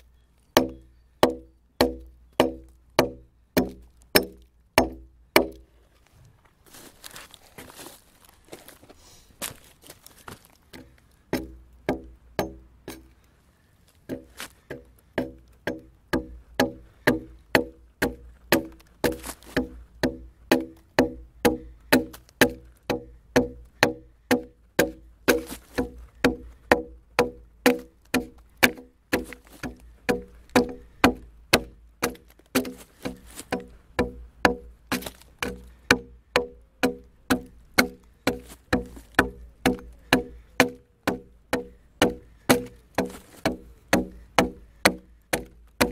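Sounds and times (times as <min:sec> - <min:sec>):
axe striking log: 0:00.6 - 0:05.6, 0:11.3 - 0:13.1, 0:14.1 - 0:45.9.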